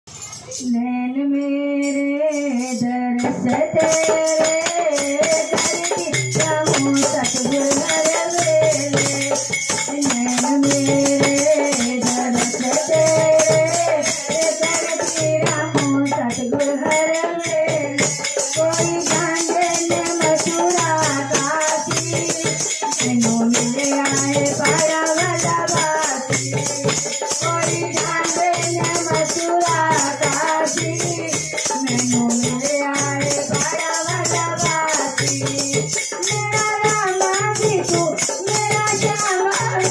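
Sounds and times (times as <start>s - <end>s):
women singing devotional song: 0.3s - 39.9s
wooden clapper with jingles: 2.3s - 39.9s
hand drum: 3.2s - 39.9s.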